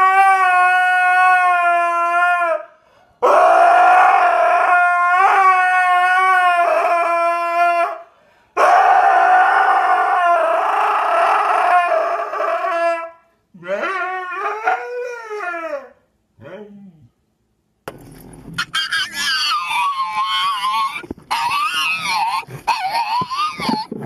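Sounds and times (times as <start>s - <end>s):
dog howling: 0.0s - 8.0s, 8.6s - 17.0s, 18.6s - 23.9s.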